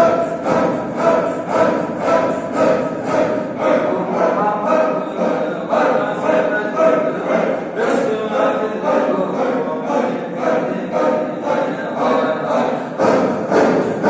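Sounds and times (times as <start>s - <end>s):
men chanting in rhythm: 0.0s - 14.0s.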